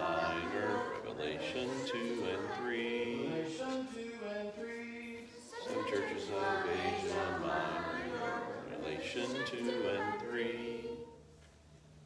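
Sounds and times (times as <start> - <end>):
group singing in unison: 0.0 - 11.2.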